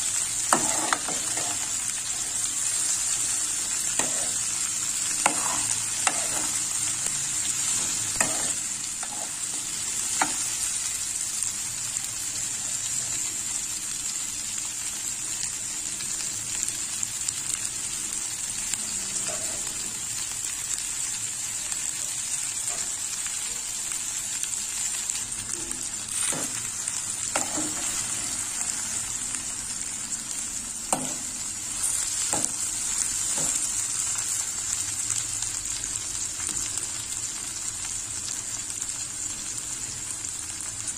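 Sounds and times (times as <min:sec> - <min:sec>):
okra sizzling in a pan: 0:00.0 - 0:40.9.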